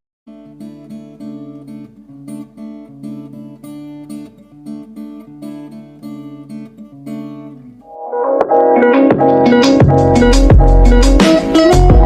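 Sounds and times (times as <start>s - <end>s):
acoustic guitar chords: 0.3s - 12.0s.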